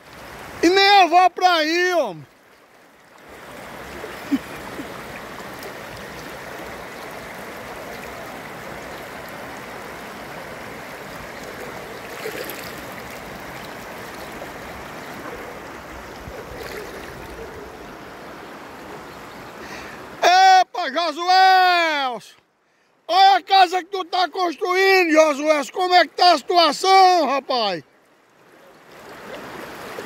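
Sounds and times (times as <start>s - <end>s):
floodwater rushing: 0.0s - 22.3s, 23.0s - 30.0s.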